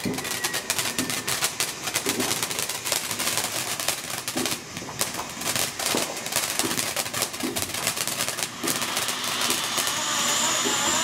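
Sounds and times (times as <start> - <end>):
firework crackling pops: 0.0 - 11.0
firework spraying hiss: 0.0 - 11.0.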